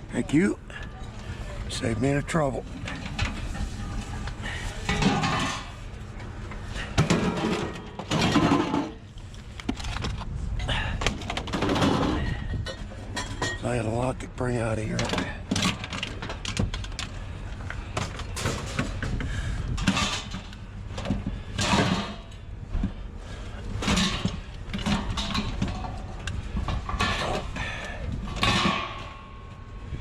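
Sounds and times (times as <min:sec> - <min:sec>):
steady low rumble: 0:00.0 - 0:08.3, 0:08.9 - 0:30.0
scrap metal clanking and scraping: 0:00.4 - 0:10.2, 0:11.2 - 0:13.9, 0:17.8 - 0:29.7.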